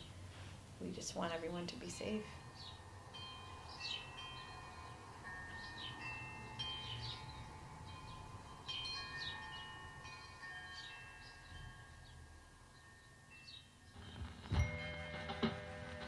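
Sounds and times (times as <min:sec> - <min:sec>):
chimes ringing: 0:02.0 - 0:16.0.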